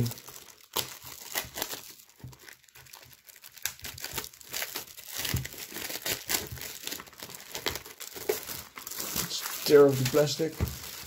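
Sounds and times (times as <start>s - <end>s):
plastic shrink wrap tearing: 0.0s - 11.0s.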